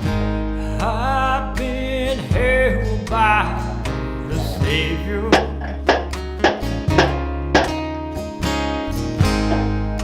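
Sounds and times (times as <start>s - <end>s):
acoustic guitar strumming: 0.0s - 10.0s
steady bass: 0.0s - 10.0s.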